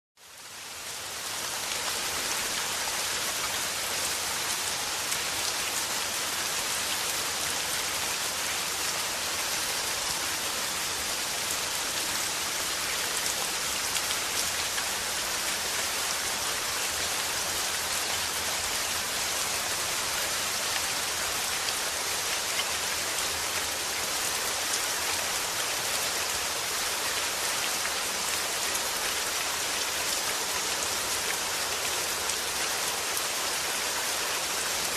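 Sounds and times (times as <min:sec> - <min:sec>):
rain pattering on a surface: 0:00.2 - 0:34.9.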